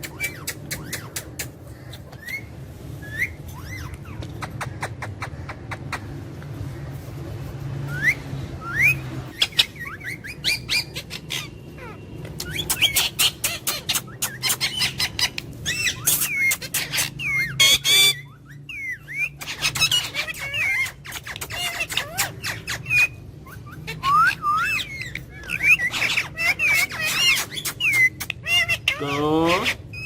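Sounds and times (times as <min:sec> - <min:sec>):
parrot chirping and squawking: 0:00.0 - 0:30.0.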